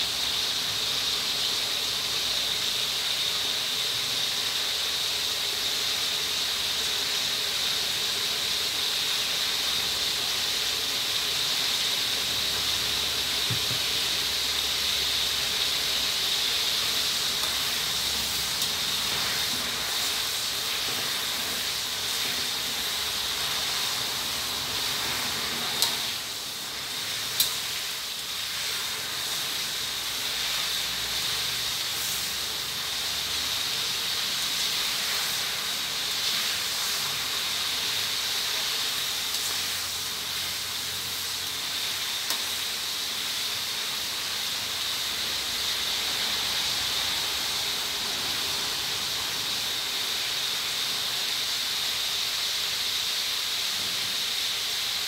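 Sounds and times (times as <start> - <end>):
hot oil sizzling: 0.0 - 55.0.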